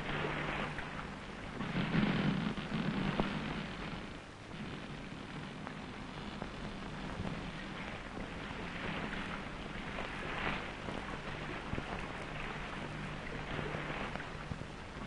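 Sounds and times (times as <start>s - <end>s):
low steady hum: 0.0s - 15.0s
wind and sea rushing: 0.0s - 15.0s.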